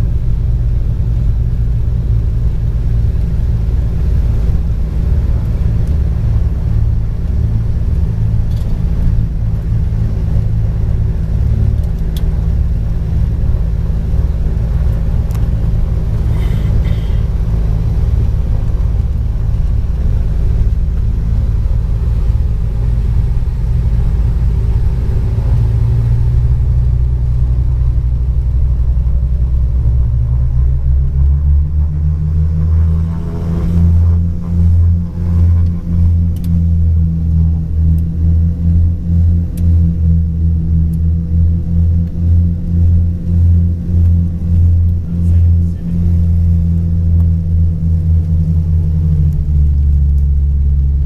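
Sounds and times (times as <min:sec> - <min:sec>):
twin aircraft engines droning: 0:00.0 - 0:51.0.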